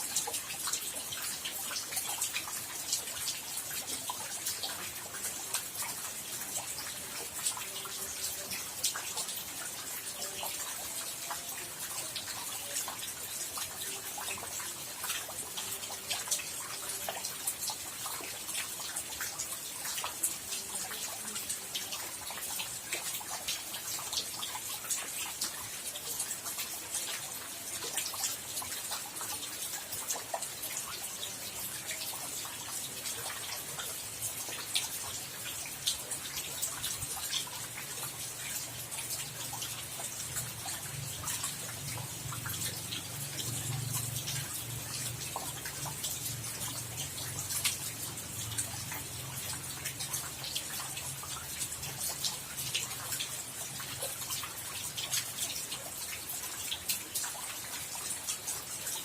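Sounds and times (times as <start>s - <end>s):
drops dripping close by: 0.0s - 59.0s
rain falling: 0.0s - 59.0s.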